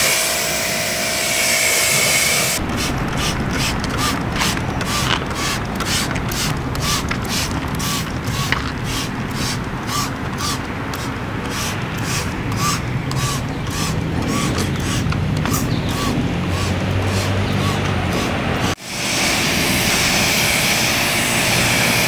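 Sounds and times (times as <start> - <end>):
spray bottle hissing: 1.6 - 22.0.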